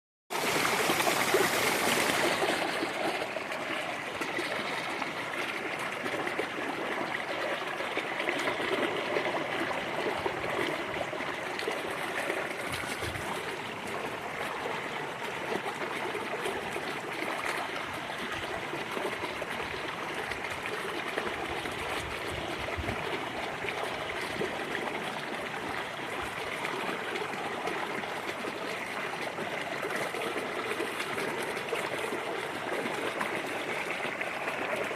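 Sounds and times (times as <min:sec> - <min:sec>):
stream trickling over stones: 0:00.3 - 0:34.9.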